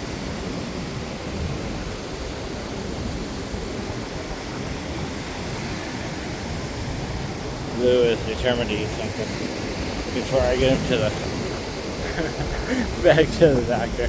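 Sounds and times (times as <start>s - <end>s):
ocean surf breaking: 0.0s - 14.0s
wind: 0.0s - 14.0s.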